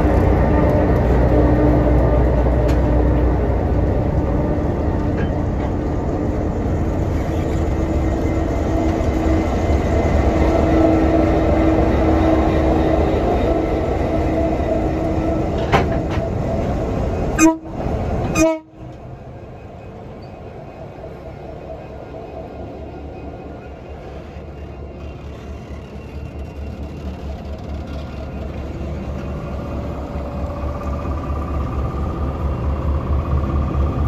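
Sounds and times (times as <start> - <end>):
diesel engine drone: 0.0 - 34.0.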